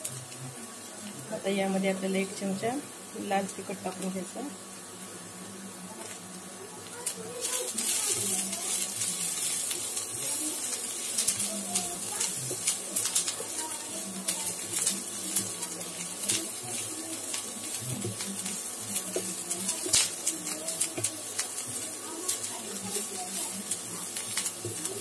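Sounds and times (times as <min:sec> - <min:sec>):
onions sizzling in a pan: 0:00.0 - 0:25.0.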